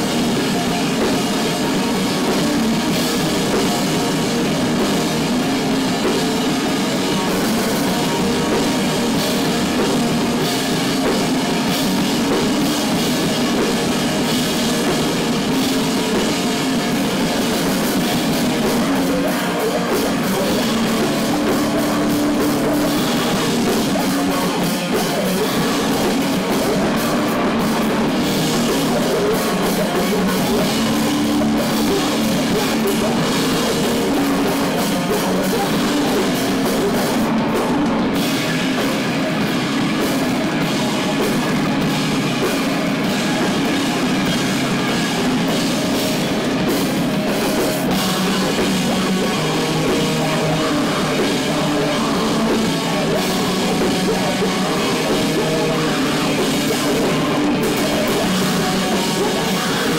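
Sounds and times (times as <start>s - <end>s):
bass guitar: 0.0s - 59.9s
drum kit with cymbals: 0.0s - 59.9s
electric guitar: 0.0s - 59.9s.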